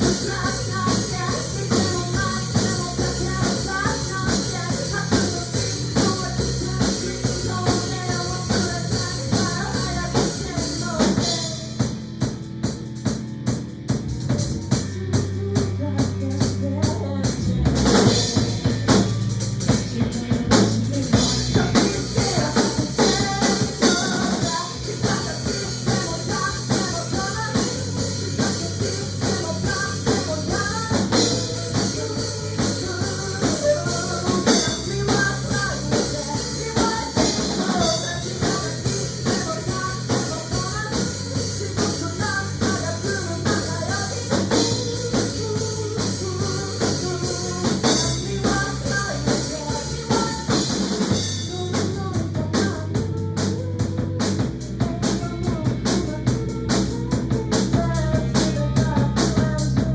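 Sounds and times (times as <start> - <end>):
band music with drums and bass: 0.0 - 59.9.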